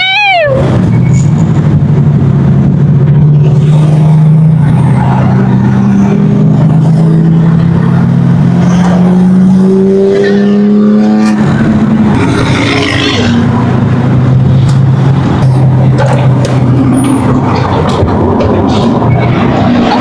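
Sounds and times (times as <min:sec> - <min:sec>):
road and tyre noise: 0:00.0 - 0:20.0.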